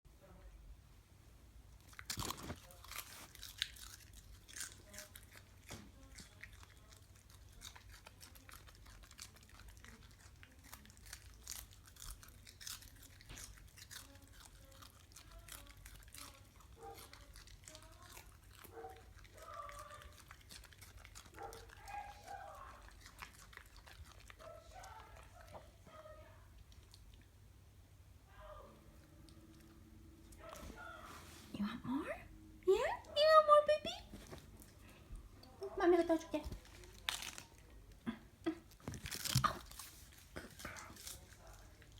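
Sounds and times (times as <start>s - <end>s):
puppy crunching lettuce: 1.8s - 27.4s, 33.0s - 41.9s.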